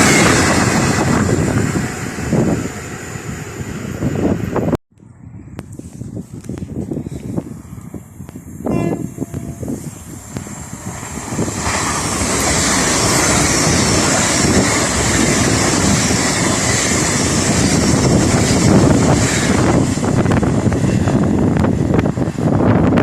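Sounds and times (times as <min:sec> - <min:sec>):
train passing at speed: 0:00.0 - 0:23.0.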